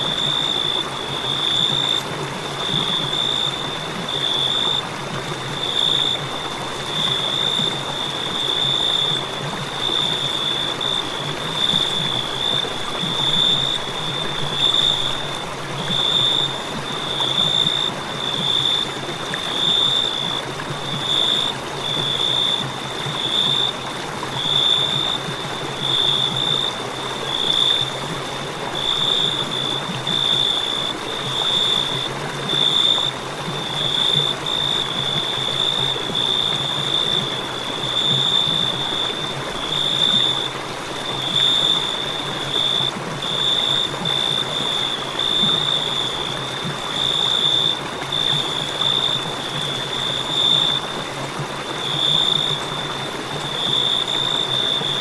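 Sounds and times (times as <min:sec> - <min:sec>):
cricket chirping: 0:00.0 - 0:55.0
soft night ambience hiss: 0:00.0 - 0:55.0.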